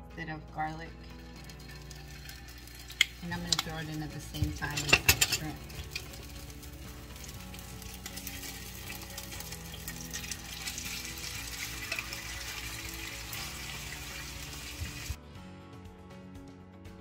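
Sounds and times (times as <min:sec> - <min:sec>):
background music: 0:00.0 - 0:17.0
food sizzling in a frying pan: 0:01.0 - 0:15.2.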